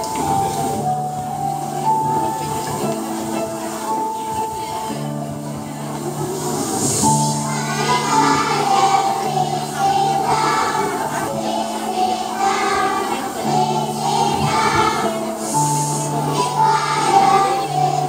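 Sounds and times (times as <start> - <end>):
backing track: 0.0 - 18.0
children singing together: 0.0 - 18.0.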